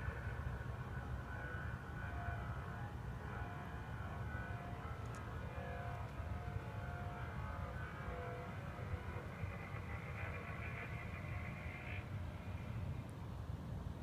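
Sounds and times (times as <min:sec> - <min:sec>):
low droning rumble in the sky: 0:00.0 - 0:14.0.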